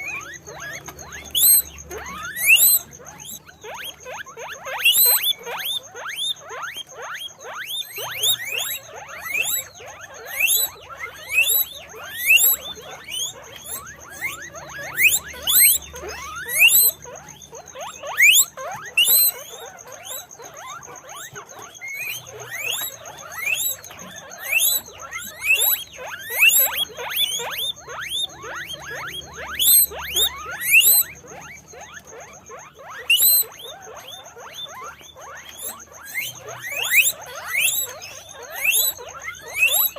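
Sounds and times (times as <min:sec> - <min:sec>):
guinea pigs squealing: 0:00.0 - 0:39.9.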